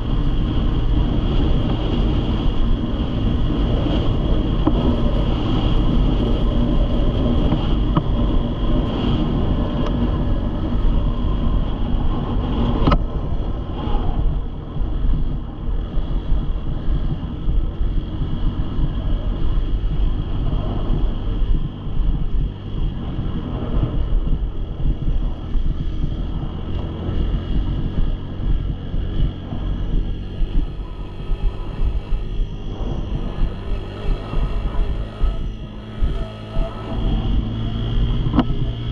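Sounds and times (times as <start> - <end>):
dirt bike engine running: 0.0 - 38.9
wind on microphone: 0.0 - 38.9.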